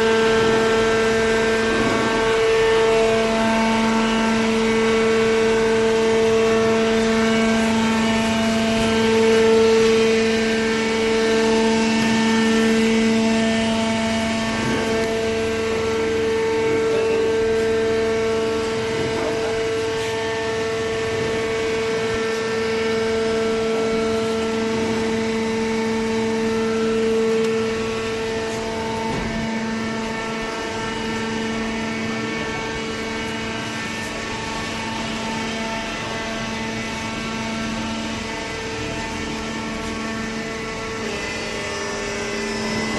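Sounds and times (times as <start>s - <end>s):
shredder machinery humming: 0.0s - 42.9s.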